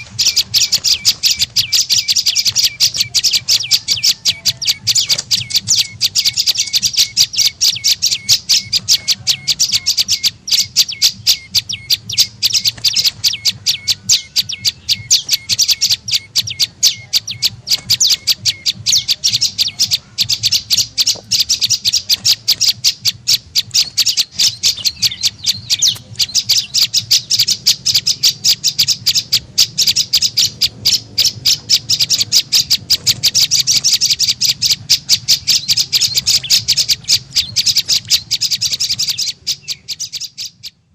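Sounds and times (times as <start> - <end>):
fast high bird chirps: 0.0 - 40.9.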